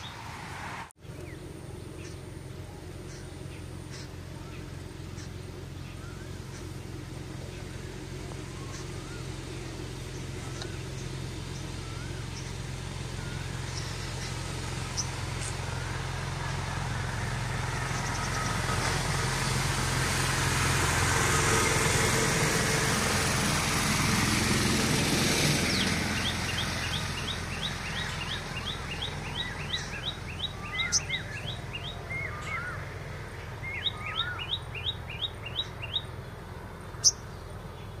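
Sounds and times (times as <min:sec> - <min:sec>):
small birds chirping: 0:01.0 - 0:19.0, 0:25.4 - 0:38.0.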